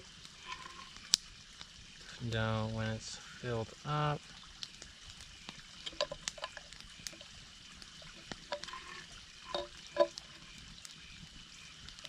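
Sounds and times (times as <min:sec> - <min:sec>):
water trickling into canteen: 0:00.0 - 0:02.7, 0:03.4 - 0:12.0.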